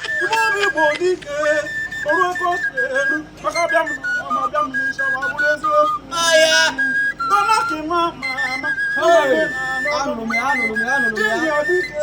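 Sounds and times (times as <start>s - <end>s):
flute melody: 0.0s - 12.0s.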